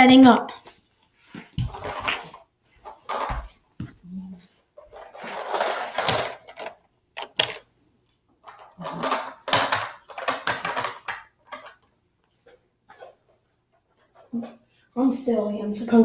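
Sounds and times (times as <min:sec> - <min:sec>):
hard objects rustling and clattering: 0:00.6 - 0:07.7, 0:08.3 - 0:14.7.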